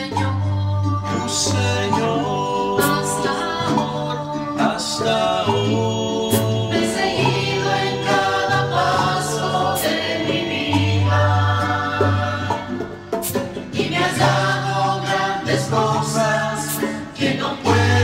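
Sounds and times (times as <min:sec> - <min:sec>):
group singing in harmony: 0:00.0 - 0:18.0
held bass notes: 0:00.0 - 0:18.0.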